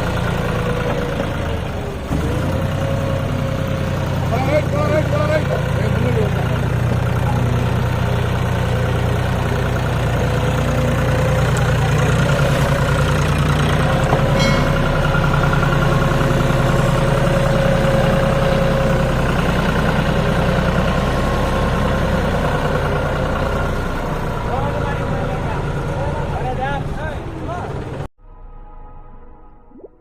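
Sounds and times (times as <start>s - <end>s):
tractor diesel engine running: 0.0s - 28.1s.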